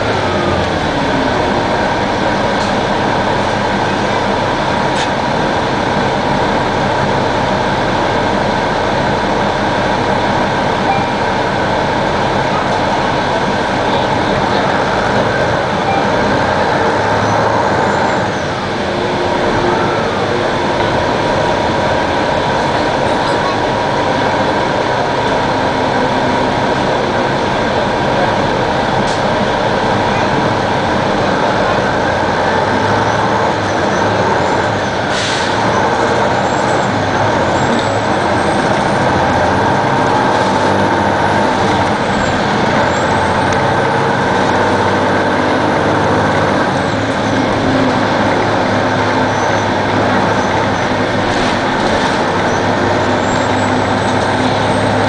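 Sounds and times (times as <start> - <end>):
transmission whine: 0.0 - 44.9
bus engine drone: 0.0 - 55.0.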